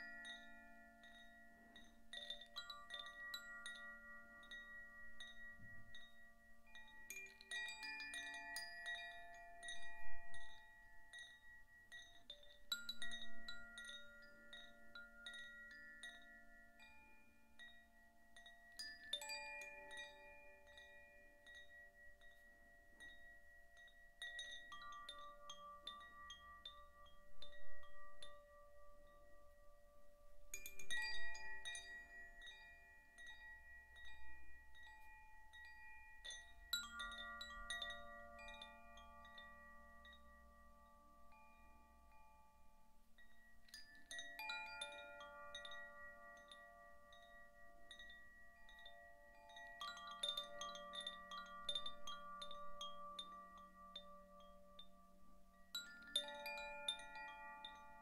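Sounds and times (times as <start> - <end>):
wind chime ringing: 0.0 - 58.0.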